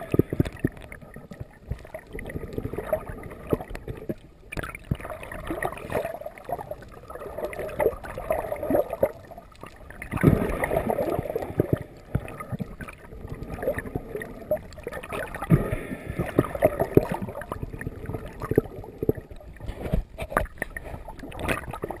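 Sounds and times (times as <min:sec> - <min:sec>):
muffled underwater water gurgling: 0:00.0 - 0:22.0.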